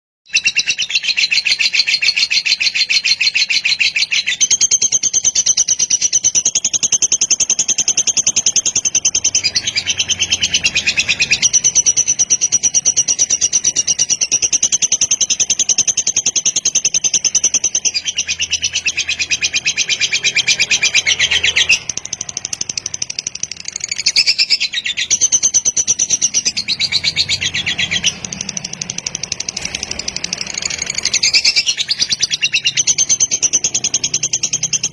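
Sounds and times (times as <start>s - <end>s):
lovebird high-pitched chatter: 0.3s - 34.9s.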